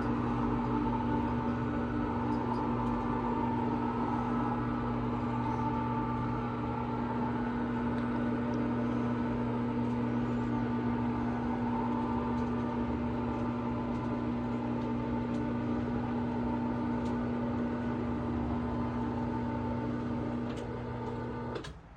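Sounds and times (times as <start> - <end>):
electric motor humming: 0.0 - 21.6.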